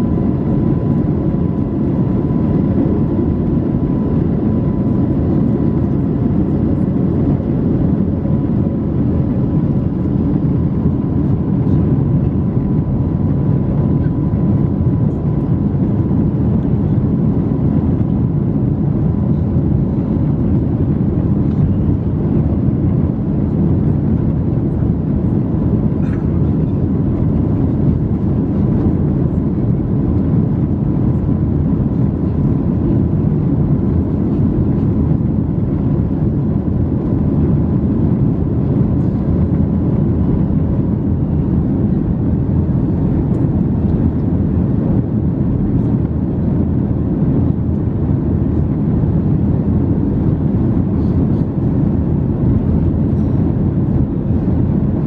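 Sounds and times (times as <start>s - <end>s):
faint engine whine: 0.0s - 55.0s
jet engine cabin rumble: 0.0s - 55.0s.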